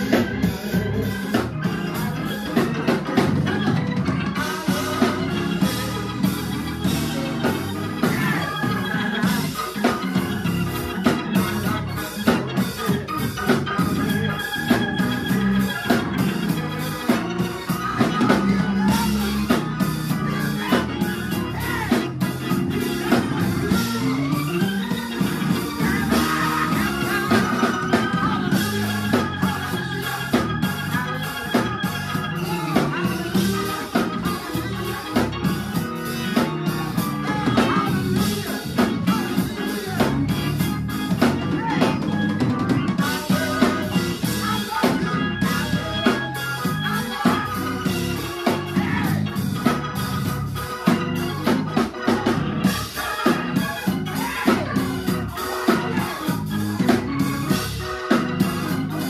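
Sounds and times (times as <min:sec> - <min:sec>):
drum kit beat: 0:00.0 - 0:59.0
organ chords: 0:00.0 - 0:59.0.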